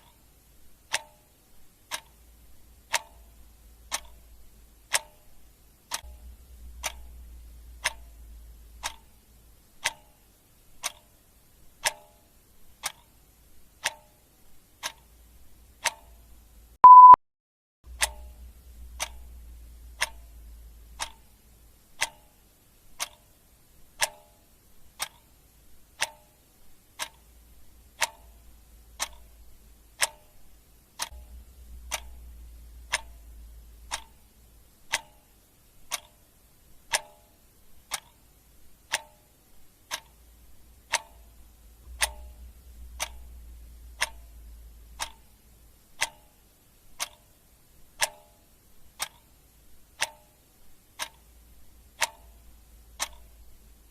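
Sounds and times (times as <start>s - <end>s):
clock ticking: 0.0s - 17.2s, 17.9s - 53.9s.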